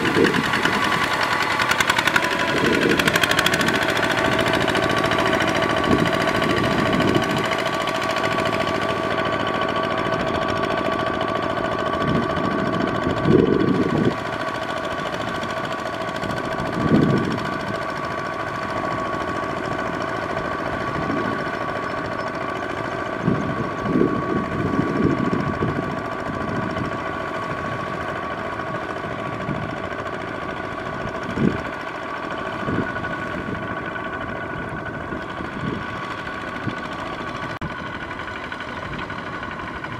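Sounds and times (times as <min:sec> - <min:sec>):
diesel engine running under load: 0:00.0 - 0:39.9
wheels churning through mud: 0:00.0 - 0:39.9.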